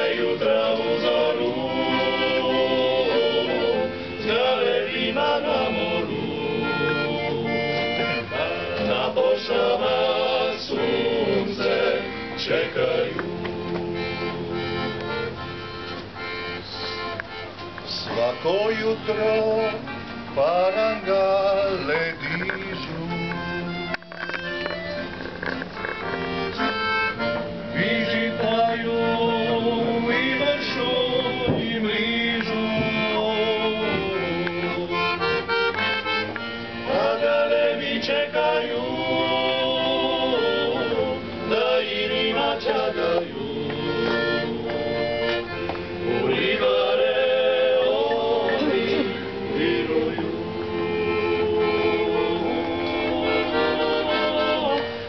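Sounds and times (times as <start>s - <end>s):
male vocal ensemble singing in harmony: 0.0s - 15.2s, 17.9s - 24.0s, 27.7s - 35.4s, 36.8s - 55.0s.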